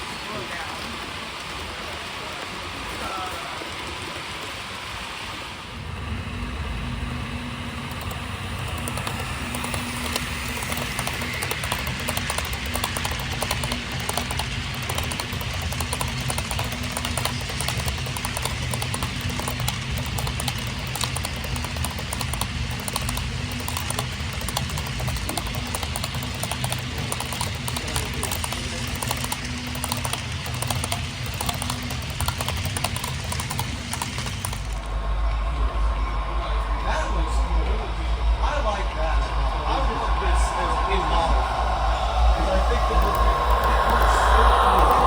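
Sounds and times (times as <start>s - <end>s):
model train motor hum: 0.0s - 45.0s
wheels clicking on track: 0.0s - 45.0s.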